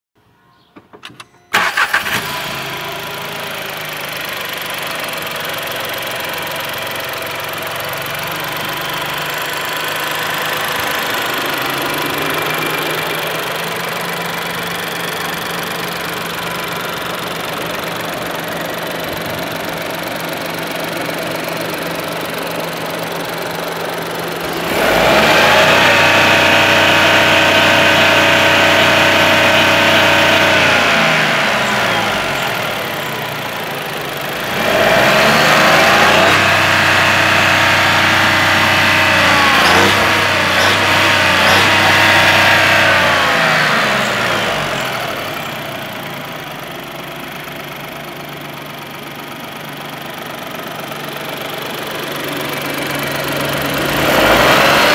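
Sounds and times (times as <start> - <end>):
car engine starting and idling: 0.8 - 54.9.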